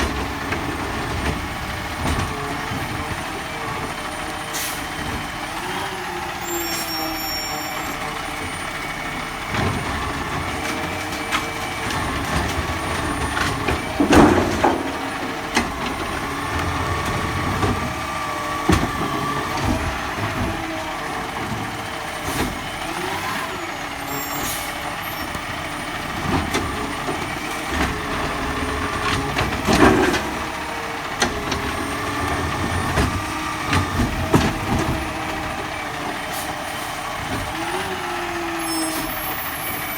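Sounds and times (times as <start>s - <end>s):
garbage truck engine and hydraulics: 0.0s - 39.9s.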